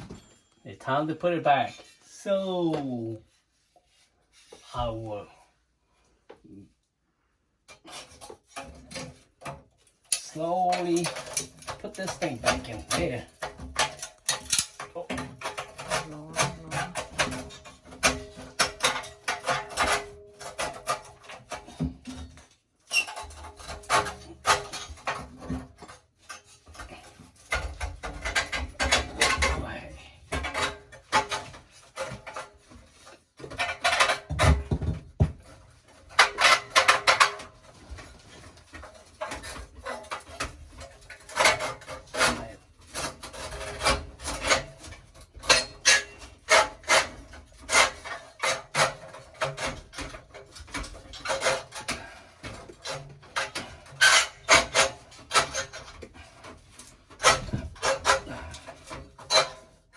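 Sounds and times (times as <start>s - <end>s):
metal parts scraping and clicking: 7.7s - 34.3s, 35.7s - 59.9s.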